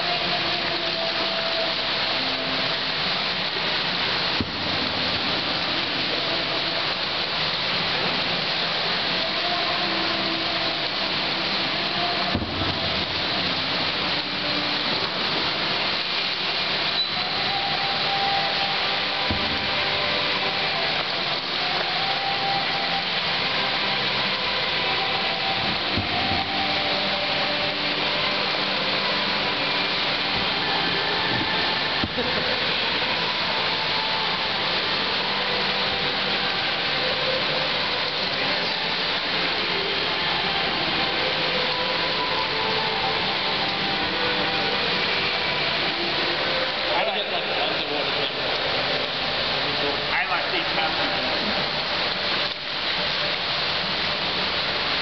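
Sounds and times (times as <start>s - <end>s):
swimming pool hall hiss: 0.0s - 55.0s.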